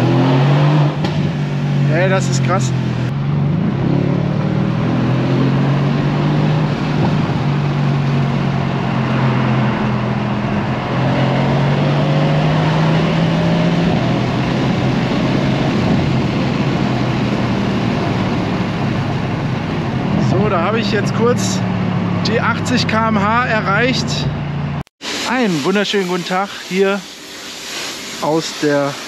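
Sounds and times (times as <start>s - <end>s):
car engine running: 0.9s - 28.7s.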